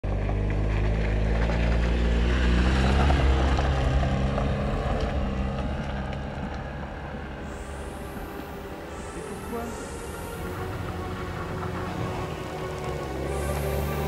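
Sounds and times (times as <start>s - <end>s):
tyres on gravel: 0.0s - 14.0s
car engine driving past: 0.1s - 14.0s.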